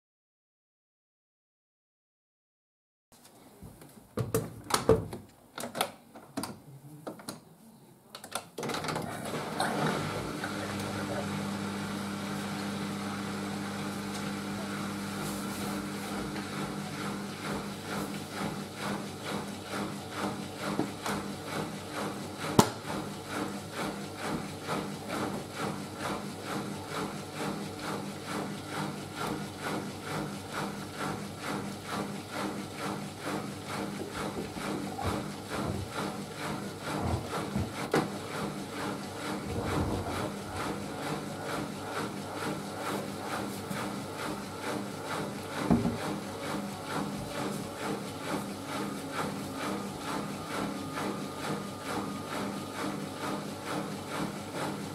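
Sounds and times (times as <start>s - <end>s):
washing machine tumbling laundry: 8.6s - 54.9s.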